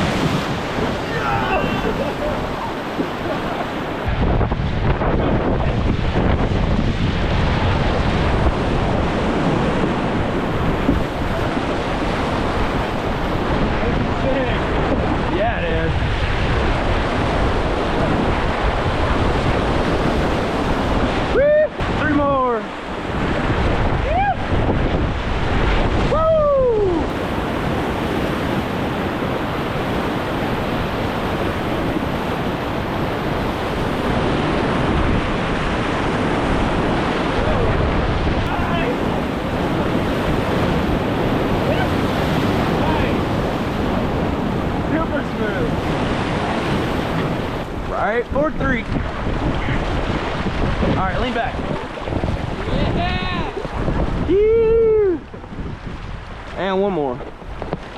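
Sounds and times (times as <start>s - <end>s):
whitewater roaring: 0.0s - 57.9s
wind buffeting microphone: 0.0s - 57.9s.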